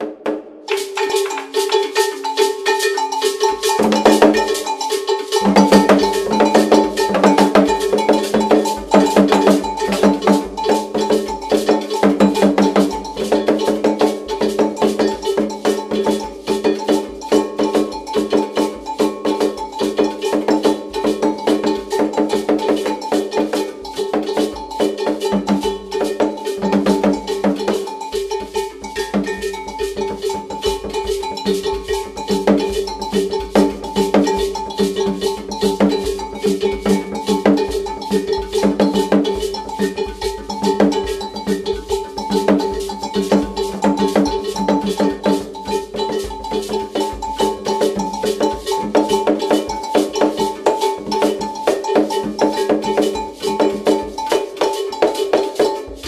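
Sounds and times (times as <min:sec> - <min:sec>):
hand drums played fast: 0:00.0 - 0:56.0.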